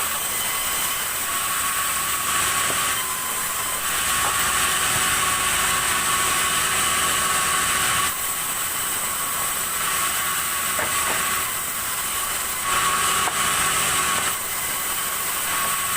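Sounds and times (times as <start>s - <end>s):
sawmill saw cutting log: 0.0s - 15.9s.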